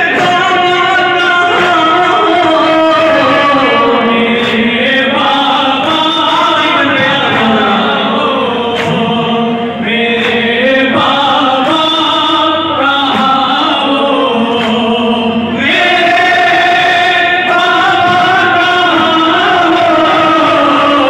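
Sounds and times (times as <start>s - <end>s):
men chanting a lament: 0.0s - 21.0s.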